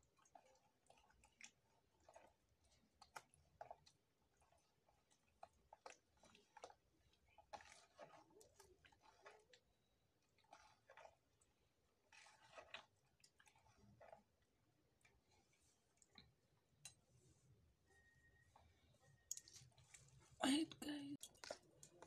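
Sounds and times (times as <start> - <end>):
hands squelching batter: 0.0 - 20.4, 21.2 - 22.0.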